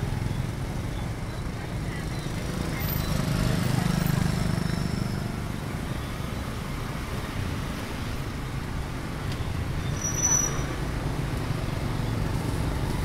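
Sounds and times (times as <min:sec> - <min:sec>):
motorbikes and cars passing: 0:00.0 - 0:13.0.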